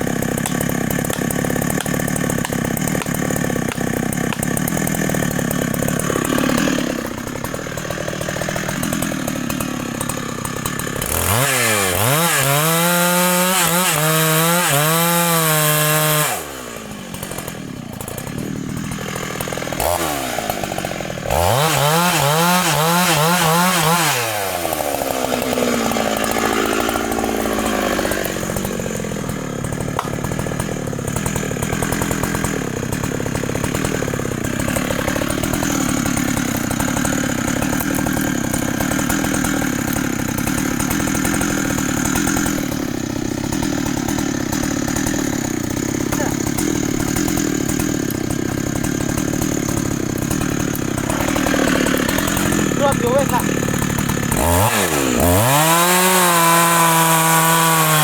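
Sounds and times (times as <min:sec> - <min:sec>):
chainsaw cutting through trunk: 0:00.0 - 0:58.0.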